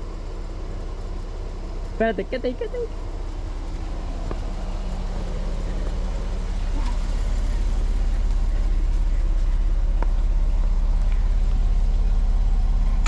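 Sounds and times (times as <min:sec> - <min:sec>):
car engine idling low revs: 0:00.0 - 0:13.0.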